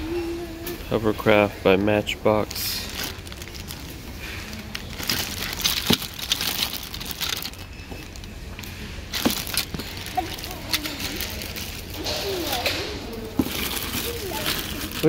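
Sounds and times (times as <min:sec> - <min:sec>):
plastic bags crinkling: 0:01.2 - 0:15.0.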